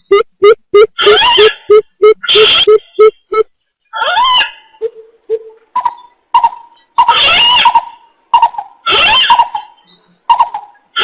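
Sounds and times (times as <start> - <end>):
bird calls: 1.0 - 11.0.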